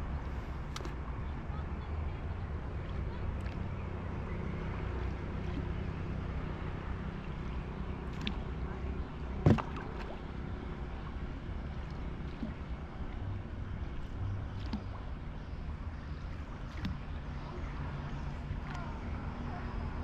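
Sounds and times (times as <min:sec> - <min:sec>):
oar rowing on water: 0:00.0 - 0:20.0
wind rumble on microphone: 0:00.0 - 0:20.0.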